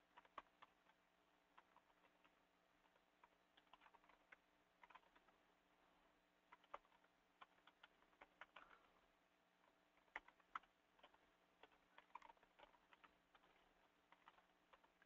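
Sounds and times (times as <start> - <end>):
typing on keyboard: 0.0 - 5.4, 6.5 - 8.9, 10.0 - 15.0.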